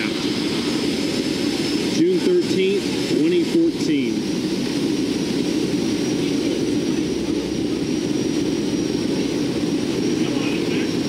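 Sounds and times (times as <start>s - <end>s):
faint high whine: 0.0s - 11.0s
turboprop engines droning: 0.0s - 11.0s.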